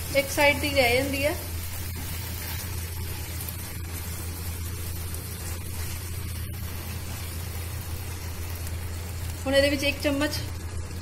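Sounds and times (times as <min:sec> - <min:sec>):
spatula stirring in pan: 0:00.0 - 0:09.4
food sizzling in frying pan: 0:00.0 - 0:11.0.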